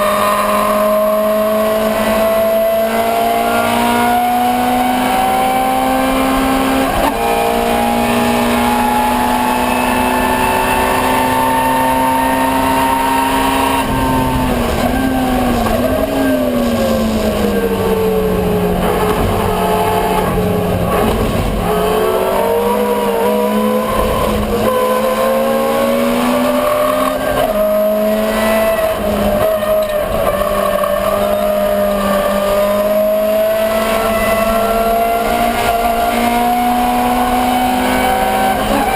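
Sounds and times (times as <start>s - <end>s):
car engine racing at high revs: 0.0s - 38.9s.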